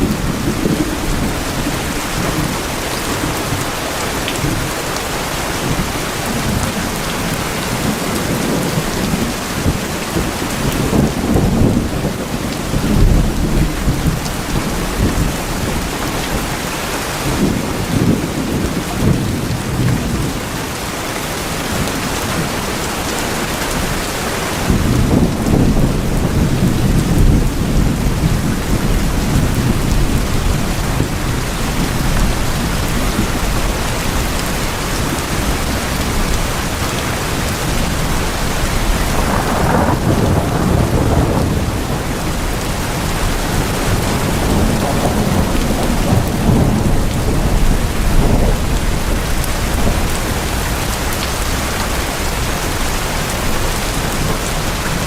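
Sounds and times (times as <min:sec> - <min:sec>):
thunder rolling: 0:00.0 - 0:20.6, 0:24.6 - 0:55.0
heavy rain on tin roofs: 0:00.0 - 0:55.0.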